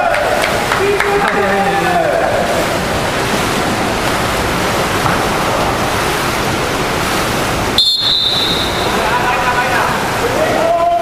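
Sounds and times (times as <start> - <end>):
water splashing from swimmers: 0.0 - 11.0.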